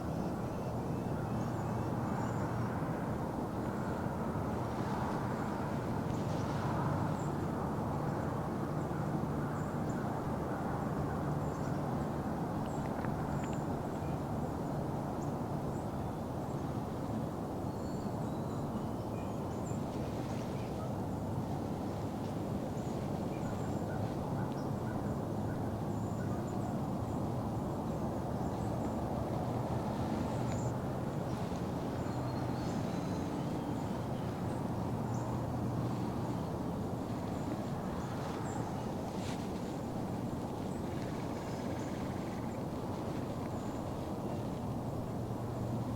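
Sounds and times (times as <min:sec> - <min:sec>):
outdoor ambient rumble: 0:00.0 - 0:45.9.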